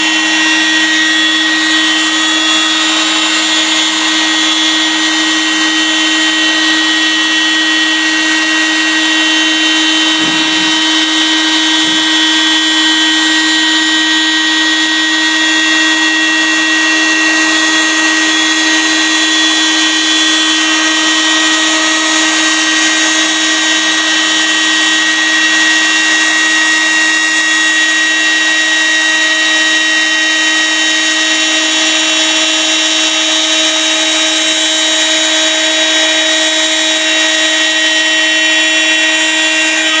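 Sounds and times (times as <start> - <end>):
cnc router spindle whine: 0.0 - 40.0
end mill cutting wood: 0.0 - 40.0.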